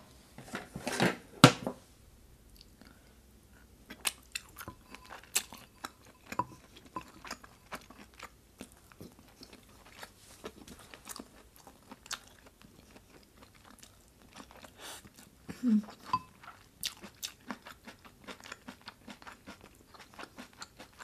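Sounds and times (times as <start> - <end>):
person chewing food: 2.5 - 21.0.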